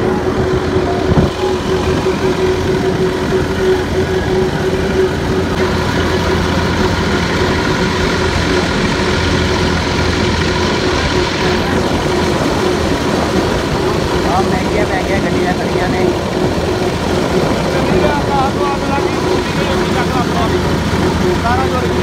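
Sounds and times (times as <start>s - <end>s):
road noise: 0.0s - 22.0s
tractor diesel engine running: 0.0s - 22.0s
wind noise: 0.0s - 22.0s.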